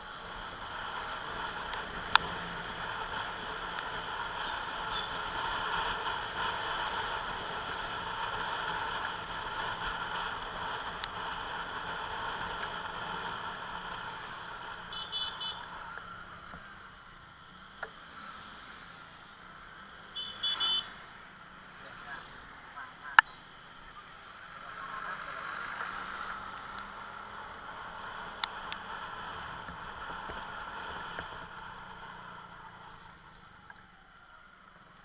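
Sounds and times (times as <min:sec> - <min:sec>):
road and vehicle noise: 0:00.0 - 0:35.0.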